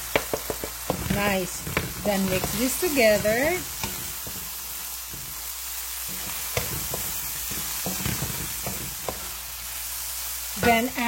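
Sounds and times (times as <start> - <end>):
food sizzling in a pan: 0.0 - 11.0
spatula scraping a pan: 0.5 - 9.6.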